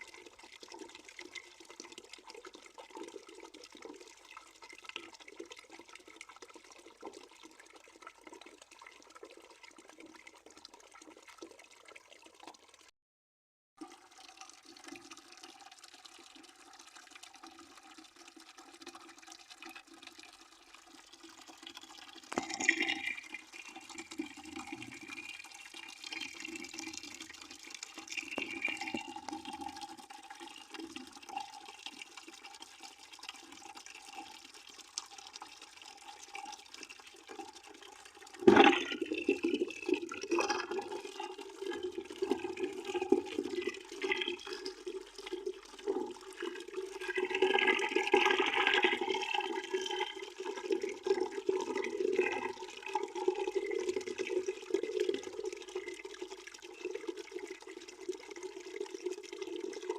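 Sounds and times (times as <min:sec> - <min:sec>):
water running into a bucket: 0:00.0 - 0:12.9, 0:13.8 - 0:59.9.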